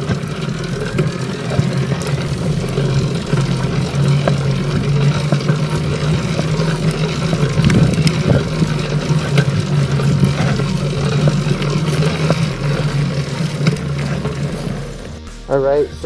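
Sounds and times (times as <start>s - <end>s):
small clicks and rattles: 0.0s - 15.2s
small two-stroke engine running: 0.0s - 16.0s.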